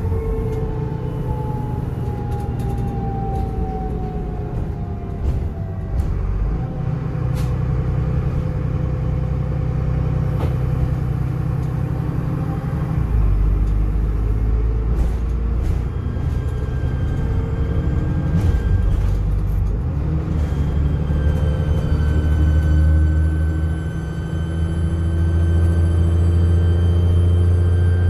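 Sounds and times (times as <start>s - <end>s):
bus engine droning: 0.0s - 28.0s.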